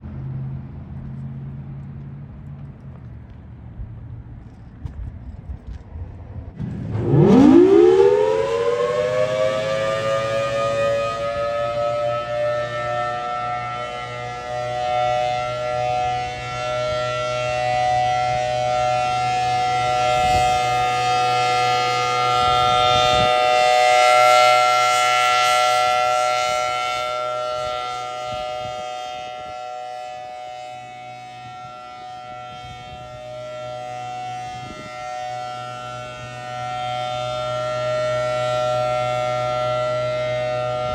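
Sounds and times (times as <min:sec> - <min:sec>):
outdoor warning siren: 0:06.6 - 0:40.9.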